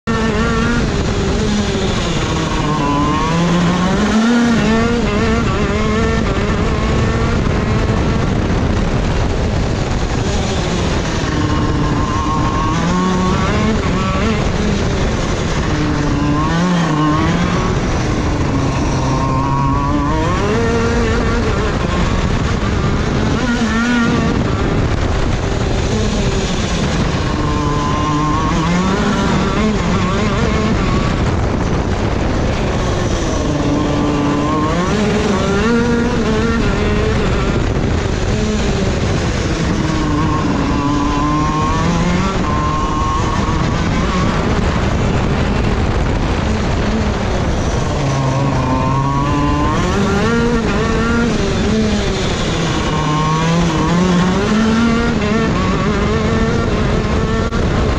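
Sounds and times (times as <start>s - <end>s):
kart two-stroke engine racing: 0.0s - 57.9s.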